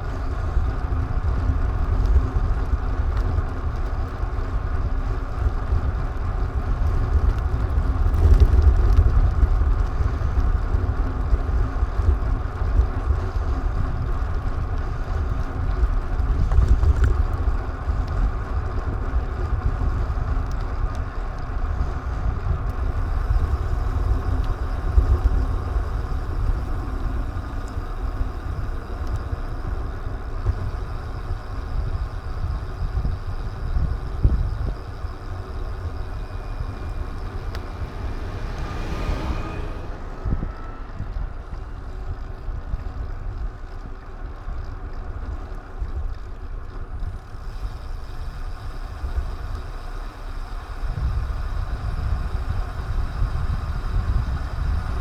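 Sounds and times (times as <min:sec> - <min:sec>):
vehicle running noise: 0:00.0 - 0:55.0
wind rumbling on microphone: 0:00.0 - 0:55.0.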